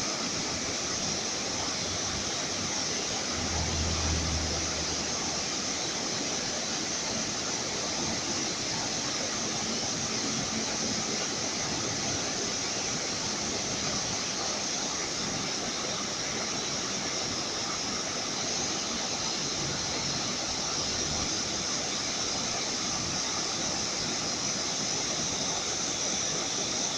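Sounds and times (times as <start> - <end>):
water rushing over rocks: 0.0 - 26.9.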